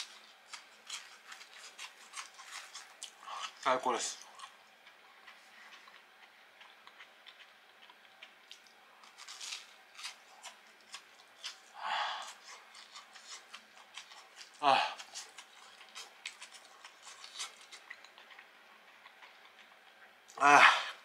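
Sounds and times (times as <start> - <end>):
chewing crispy fried fish: 0.0 - 21.0.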